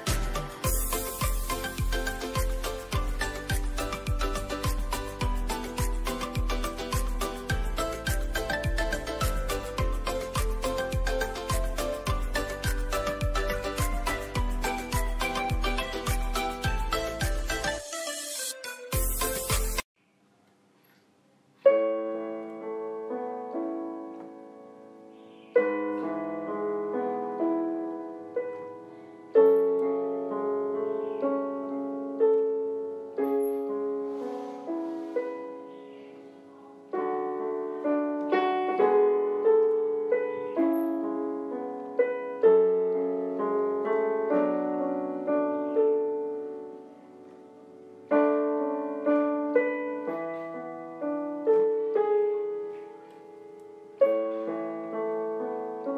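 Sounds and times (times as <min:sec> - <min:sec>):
solo piano piece: 0:00.0 - 0:17.9, 0:21.6 - 0:55.9.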